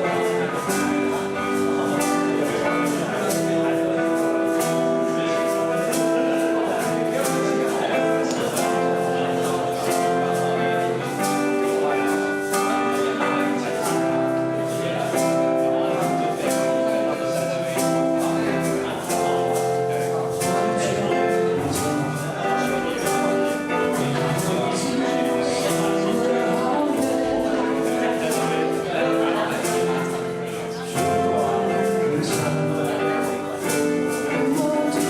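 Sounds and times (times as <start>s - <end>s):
acoustic guitar band music: 0.0s - 35.0s.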